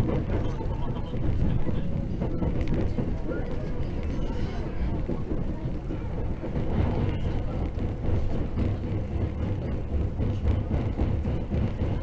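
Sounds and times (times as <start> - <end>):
train cabin rumble: 0.0 - 12.0.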